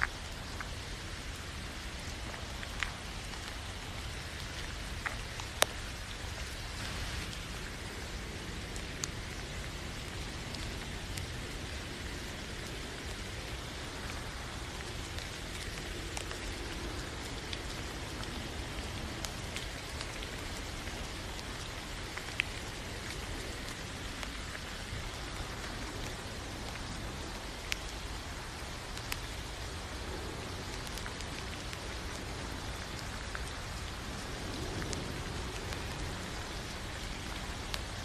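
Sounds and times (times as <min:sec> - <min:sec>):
raindrops ticking: 0:00.0 - 0:38.0
steady rain hiss: 0:00.0 - 0:38.0.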